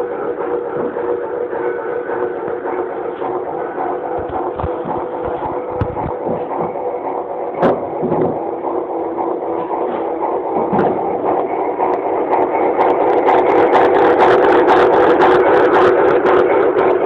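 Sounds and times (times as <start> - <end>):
mechanical ticking: 0.0 - 16.8
locomotive mechanical hum: 0.0 - 17.0.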